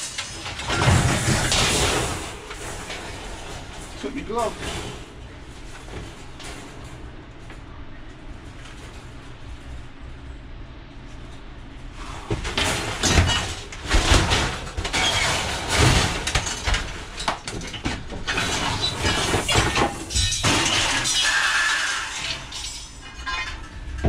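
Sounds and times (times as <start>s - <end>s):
scrap metal clanking onto a pile: 0.0s - 7.6s, 12.0s - 24.0s.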